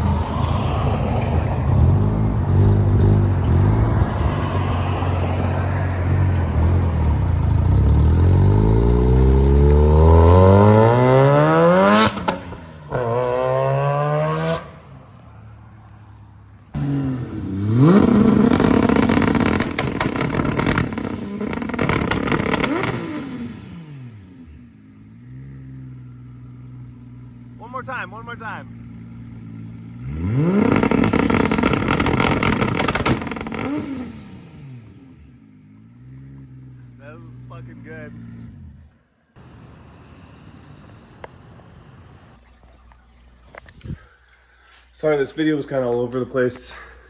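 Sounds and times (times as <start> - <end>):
car engine accelerating: 0.0 - 42.5.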